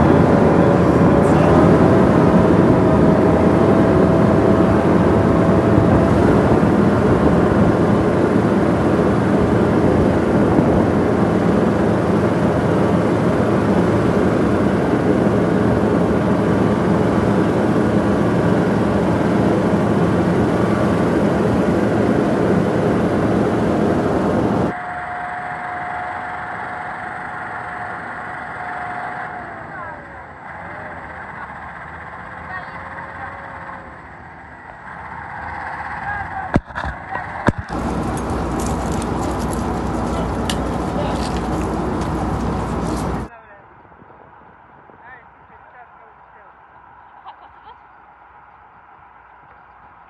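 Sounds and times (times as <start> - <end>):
engine-like drone with whine: 0.0 - 50.0.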